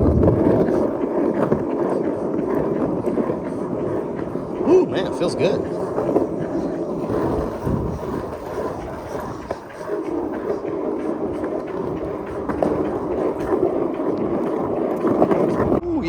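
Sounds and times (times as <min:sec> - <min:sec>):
skateboard wheels rumbling: 0:00.0 - 0:16.0
wheels clicking over cracks: 0:00.0 - 0:16.0.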